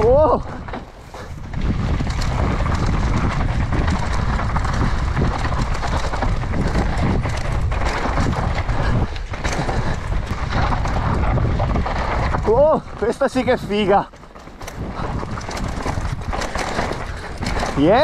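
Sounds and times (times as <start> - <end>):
bike knocks and rattles: 0.0 - 18.0
tyres grinding over dirt and stones: 0.0 - 18.0
wind buffeting microphone: 0.0 - 18.0.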